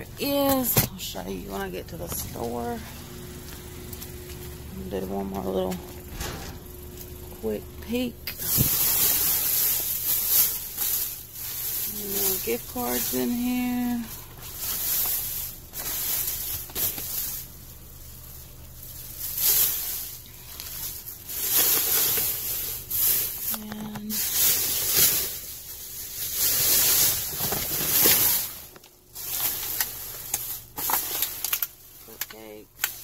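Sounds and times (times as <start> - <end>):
plastic bags rustling: 0.2 - 33.0.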